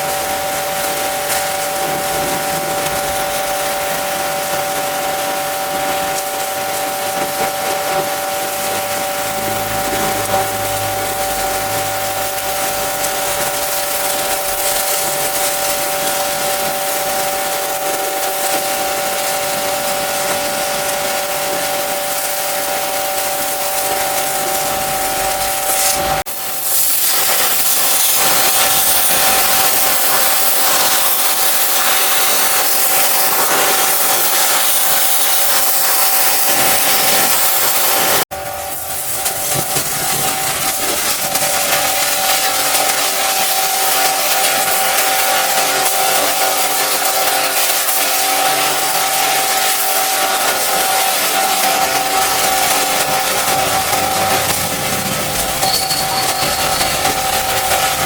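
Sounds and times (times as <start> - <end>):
pressure washer spray hiss: 0.0 - 58.0
pump whine: 0.0 - 58.0.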